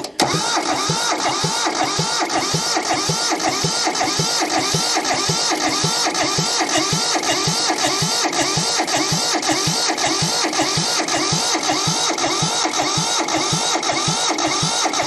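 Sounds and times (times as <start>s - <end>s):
diesel engine cranking: 0.0s - 15.0s.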